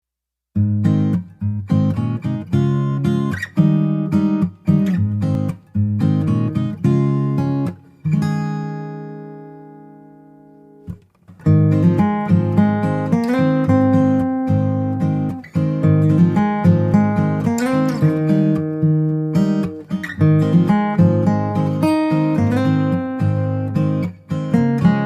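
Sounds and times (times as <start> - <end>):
acoustic guitar strumming: 0.6 - 25.0.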